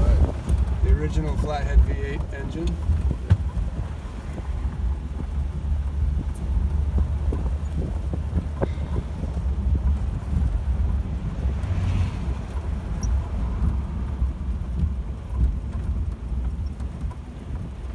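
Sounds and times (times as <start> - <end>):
car engine rumbling: 0.0 - 17.9
road and wind noise: 0.0 - 17.9.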